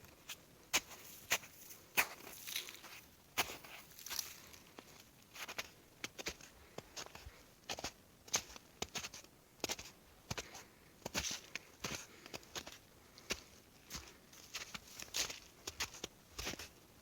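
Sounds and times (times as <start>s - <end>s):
footsteps crunching on trail: 0.2s - 16.8s.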